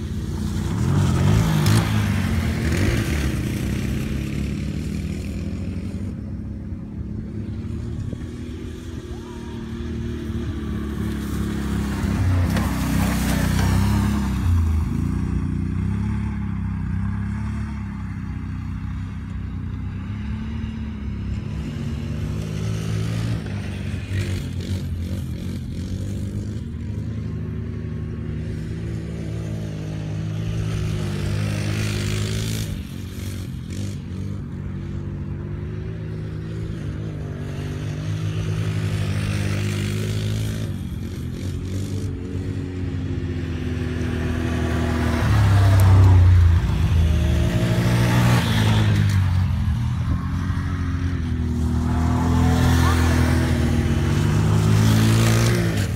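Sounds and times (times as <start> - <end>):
quad bike engines revving: 0.0 - 55.9.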